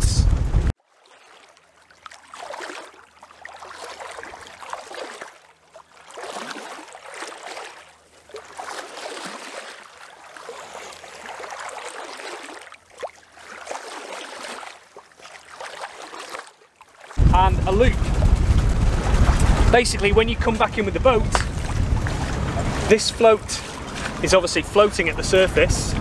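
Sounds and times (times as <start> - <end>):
water lapping against boat hull: 0.7 - 26.0.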